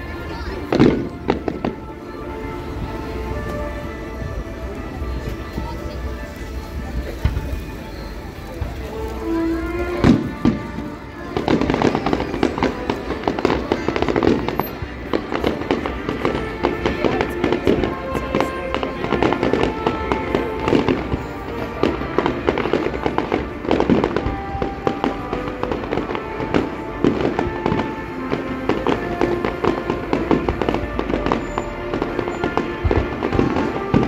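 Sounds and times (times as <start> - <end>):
fireworks crackling and banging: 0.0 - 34.0
music with held notes: 0.0 - 34.0.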